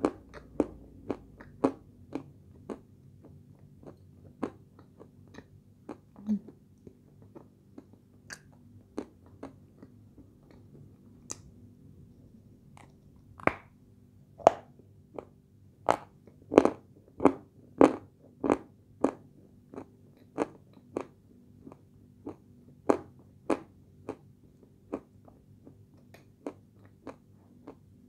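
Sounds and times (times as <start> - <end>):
crunching chewing of clay: 0.0 - 6.1, 6.8 - 11.5, 14.4 - 27.9.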